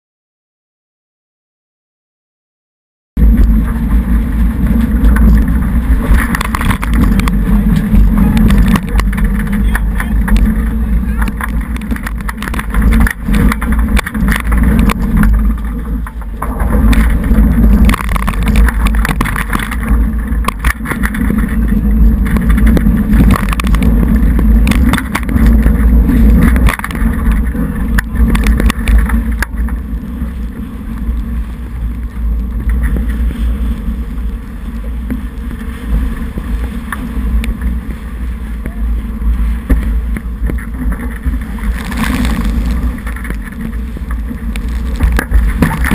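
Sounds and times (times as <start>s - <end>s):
water rushing past boat hull: 3.2s - 45.9s
wind rumbling on microphone: 3.2s - 45.9s.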